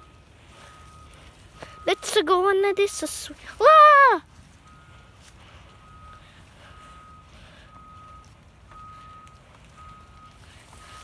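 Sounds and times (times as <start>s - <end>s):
reversing alarm beeping: 0.0s - 3.3s, 4.6s - 11.0s.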